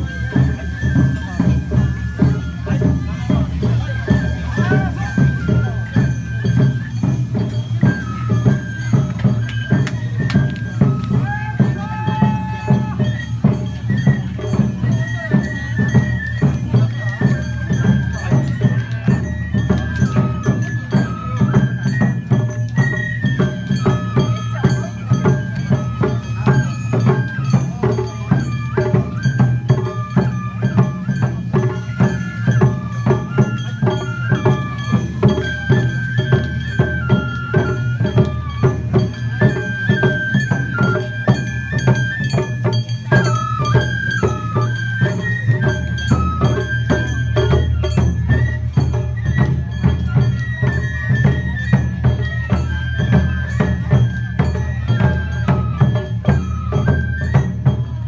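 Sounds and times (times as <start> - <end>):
driving percussion beat: 0.0 - 58.0.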